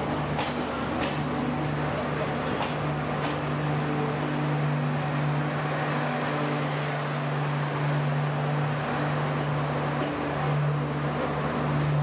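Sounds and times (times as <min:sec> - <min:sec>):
diesel generator hum: 0:00.0 - 0:12.0
train wheels rumbling on rail: 0:00.0 - 0:12.0.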